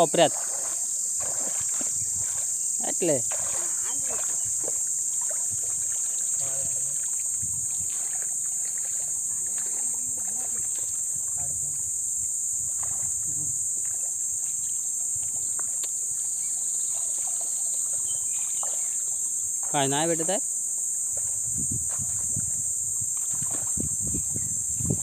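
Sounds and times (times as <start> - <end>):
muddy water sloshing and splashing: 0.0 - 11.5, 12.6 - 19.9, 21.1 - 25.0
high-pitched insect drone: 0.0 - 25.0.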